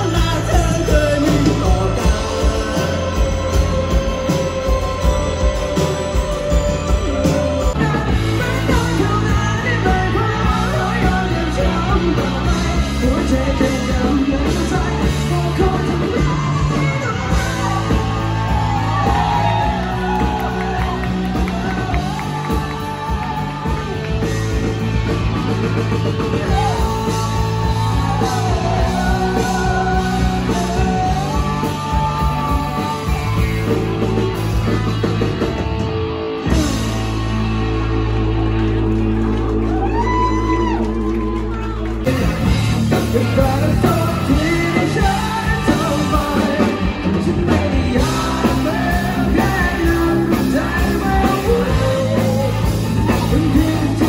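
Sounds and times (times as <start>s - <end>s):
person singing: 0.0s - 35.2s, 39.1s - 54.0s
live rock band playing: 0.0s - 54.0s.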